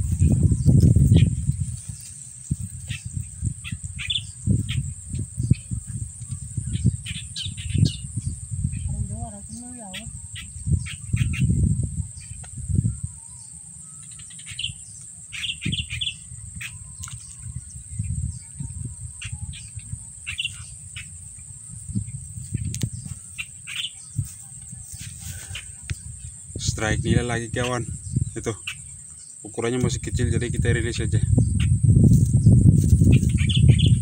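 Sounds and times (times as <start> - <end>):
birds chirping: 0.0 - 34.0
insect drone: 0.0 - 34.0.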